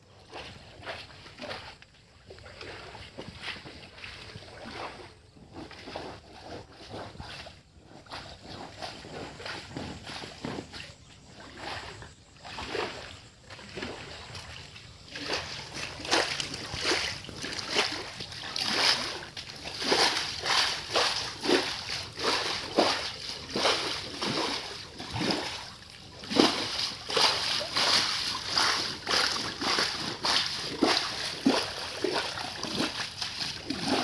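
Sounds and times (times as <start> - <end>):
scrub brush splashing through water: 2.5 - 34.0.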